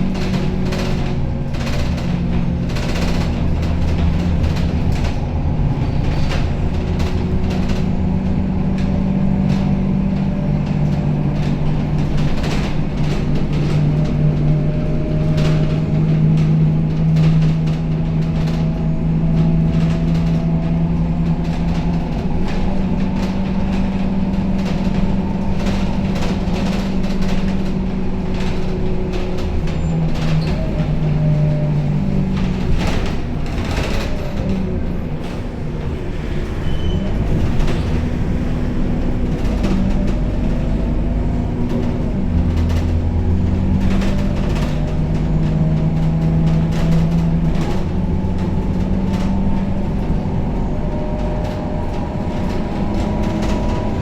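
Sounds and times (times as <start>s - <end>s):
bus body rattling and clicking: 0.0s - 54.0s
bus diesel engine droning: 0.0s - 54.0s.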